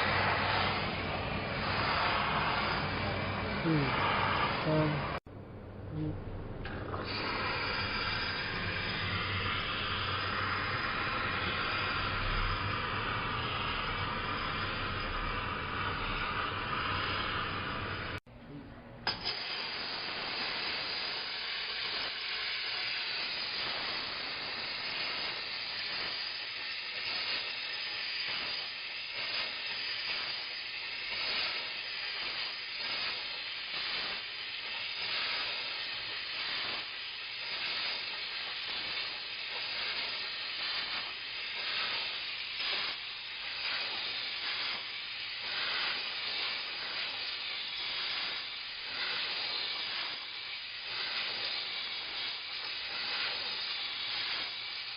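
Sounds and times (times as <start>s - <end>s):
steam mop hissing: 0.0s - 5.2s, 6.7s - 18.2s, 19.1s - 54.9s.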